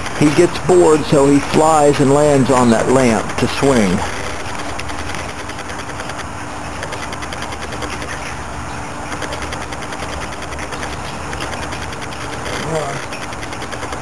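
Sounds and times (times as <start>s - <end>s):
air conditioner humming with rattle: 0.0s - 14.0s.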